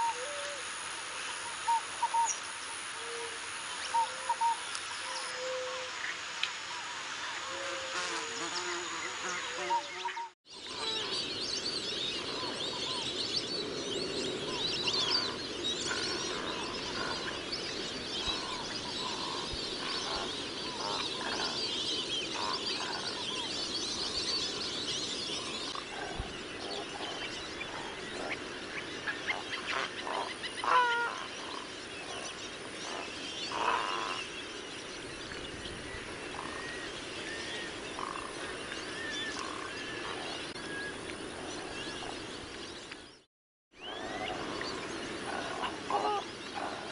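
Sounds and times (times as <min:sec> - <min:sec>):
wetland background: 0:00.0 - 0:46.9
wild birds calling: 0:03.0 - 0:43.0, 0:43.8 - 0:46.9.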